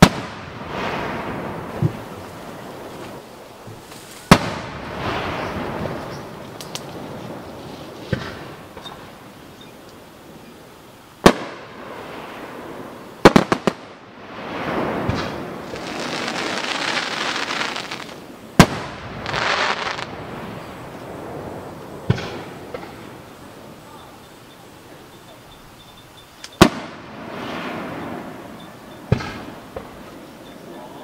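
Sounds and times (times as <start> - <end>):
hissing crackle: 0.0 - 31.0.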